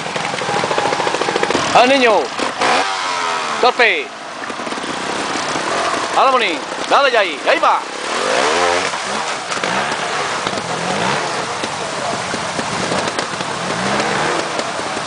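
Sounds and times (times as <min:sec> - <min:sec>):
motorcycle engine at low revs: 0:00.0 - 0:15.0
rough crackling hiss: 0:00.0 - 0:15.0.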